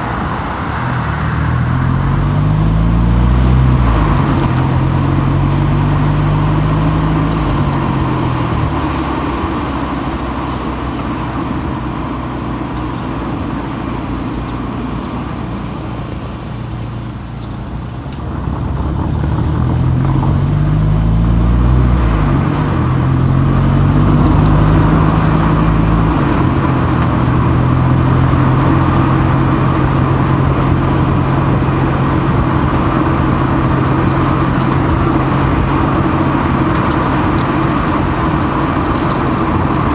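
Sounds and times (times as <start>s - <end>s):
car engine: 0.0s - 39.9s
tyre noise: 0.0s - 39.9s.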